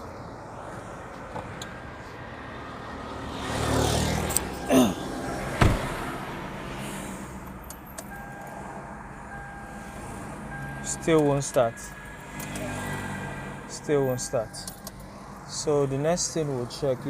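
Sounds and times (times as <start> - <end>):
vehicle noise: 0.0 - 17.0.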